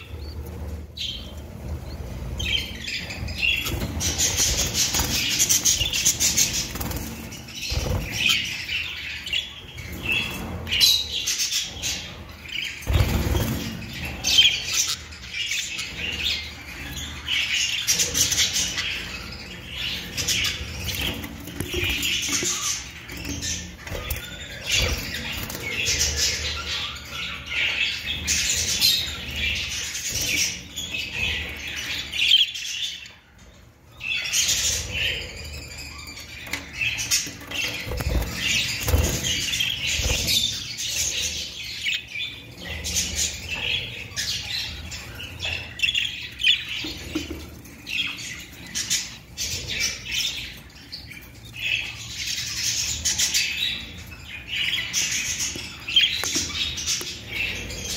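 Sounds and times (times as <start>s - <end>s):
budgerigar chicks squawking: 0.0s - 33.1s, 34.2s - 57.9s.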